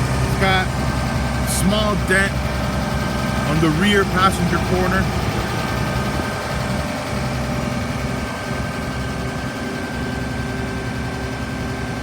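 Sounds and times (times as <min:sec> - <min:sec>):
diesel bus engine idling: 0:00.0 - 0:12.0.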